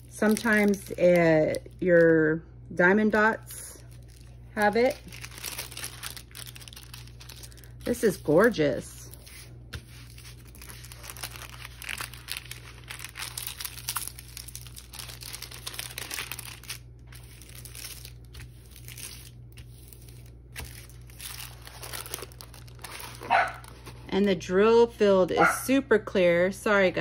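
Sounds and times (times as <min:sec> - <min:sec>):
plastic film crinkling: 0:00.0 - 0:02.1, 0:03.4 - 0:24.2.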